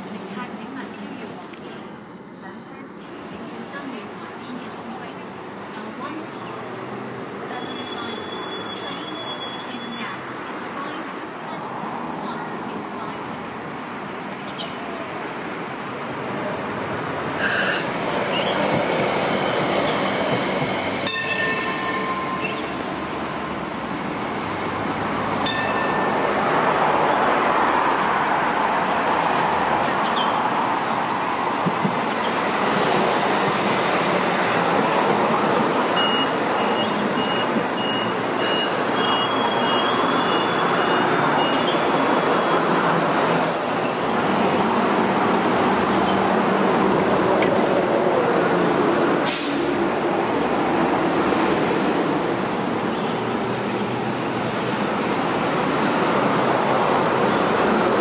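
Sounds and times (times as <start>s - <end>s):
tram passing with rising whine: 0.0s - 58.0s
tram running: 0.0s - 58.0s.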